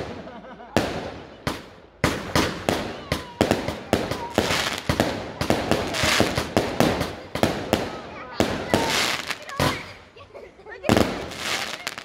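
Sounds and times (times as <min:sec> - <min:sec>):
firework bangs: 0:00.0 - 0:10.1, 0:10.8 - 0:12.0
crackling hiss of fireworks: 0:00.0 - 0:10.2, 0:10.8 - 0:12.0.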